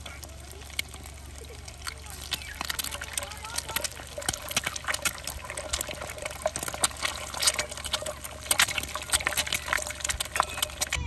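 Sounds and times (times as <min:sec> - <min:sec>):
eggs sizzling in frying pan: 0:00.0 - 0:11.0
popping oil crackle: 0:00.0 - 0:11.0.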